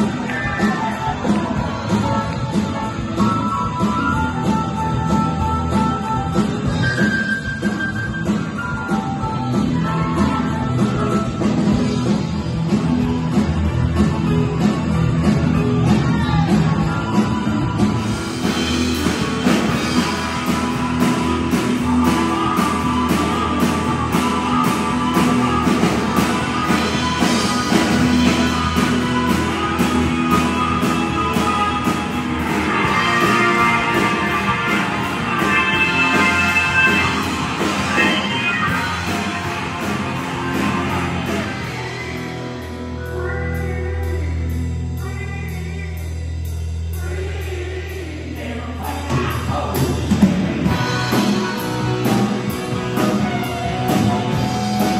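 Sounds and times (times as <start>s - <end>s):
harmonica: 0.0s - 44.5s
live rock band playing: 0.0s - 54.9s.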